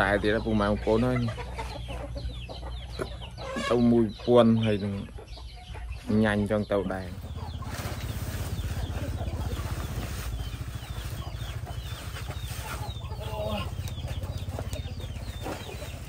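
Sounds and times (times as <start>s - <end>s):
chickens calling: 0.0s - 16.0s.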